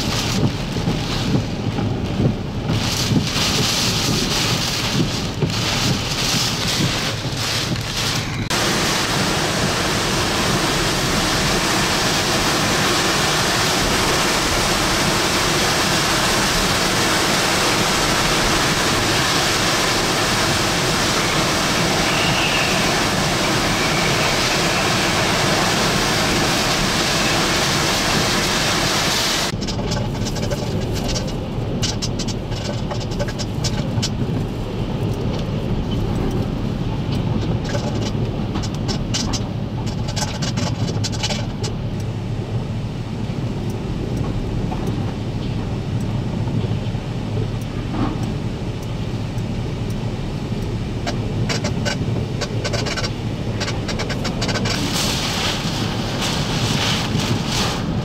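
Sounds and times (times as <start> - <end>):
hurricane wind roaring: 0.0 - 58.0
rain and debris ticking on vehicle: 0.0 - 58.0.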